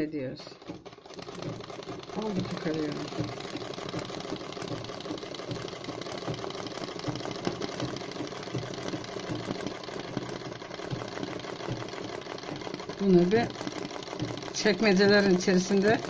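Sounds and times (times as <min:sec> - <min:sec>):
sewing machine clattering: 0:00.0 - 0:16.0.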